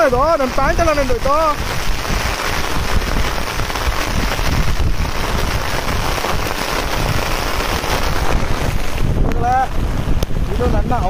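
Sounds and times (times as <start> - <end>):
heavy rain falling: 0.0 - 11.0
wind rumbling on microphone: 0.0 - 11.0.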